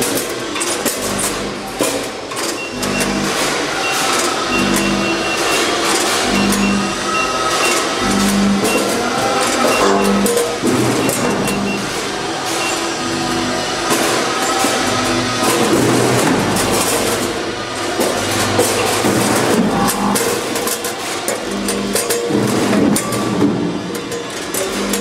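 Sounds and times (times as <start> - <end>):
hopper gates clacking: 0.0 - 25.0
vibrating feeders buzzing: 0.0 - 25.0.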